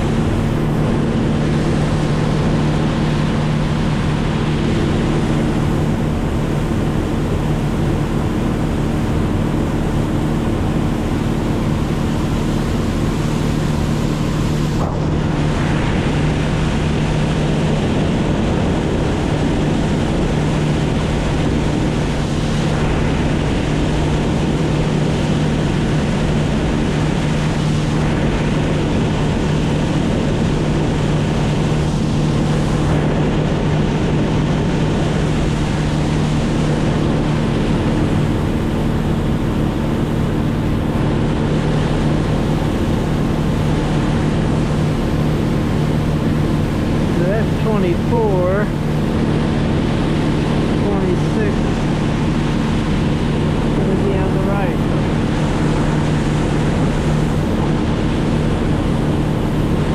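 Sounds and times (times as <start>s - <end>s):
engine droning: 0.0s - 59.9s
wind rush on microphone: 0.0s - 59.9s.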